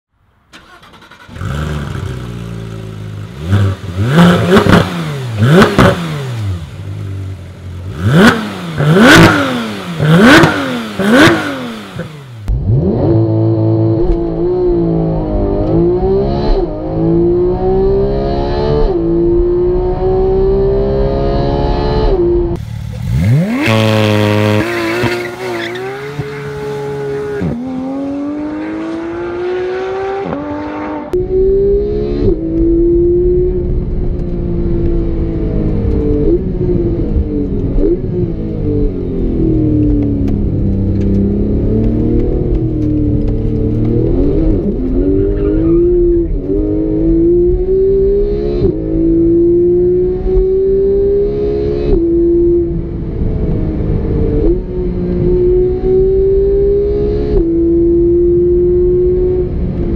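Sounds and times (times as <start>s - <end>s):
sports car engine revving: 0.9s - 59.9s.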